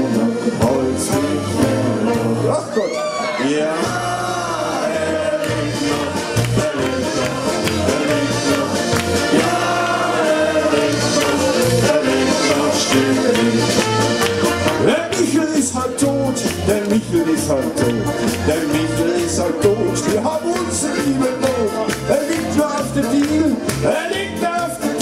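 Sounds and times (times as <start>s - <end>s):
man singing: 0.0s - 9.7s, 10.6s - 13.8s, 14.8s - 25.0s
party band playing: 0.0s - 25.0s.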